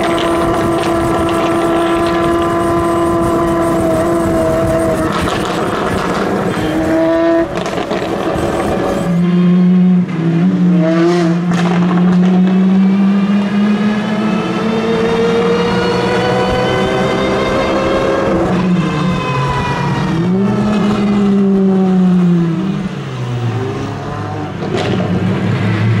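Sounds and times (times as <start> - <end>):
engines at high revs: 0.0 - 26.0
lower engine note accelerating: 0.0 - 26.0.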